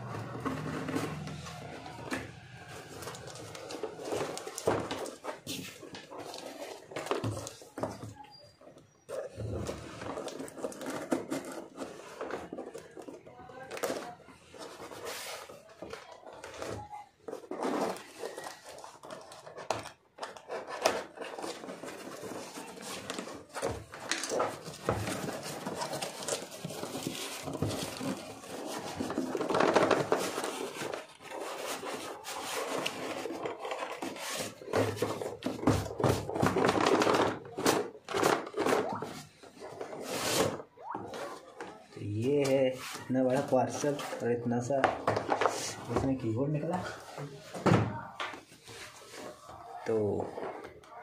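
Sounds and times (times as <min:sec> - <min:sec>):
scrapes and knocks: 0:00.0 - 0:51.0
cardboard tearing and rustling: 0:00.2 - 0:08.1, 0:09.2 - 0:44.2.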